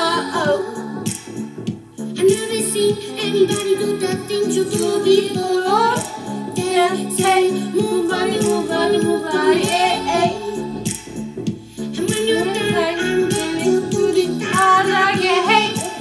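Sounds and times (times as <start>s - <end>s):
woman singing: 0.0s - 1.0s, 2.2s - 10.8s, 11.9s - 16.0s
pop song with keyboard chords: 0.0s - 16.0s.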